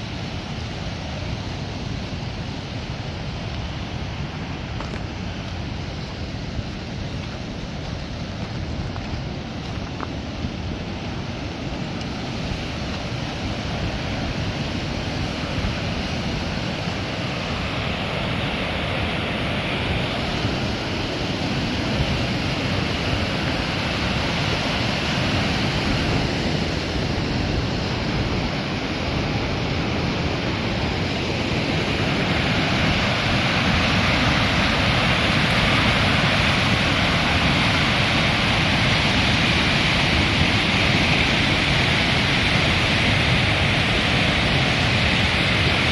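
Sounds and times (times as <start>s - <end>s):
river rapids rushing: 0.0s - 45.9s.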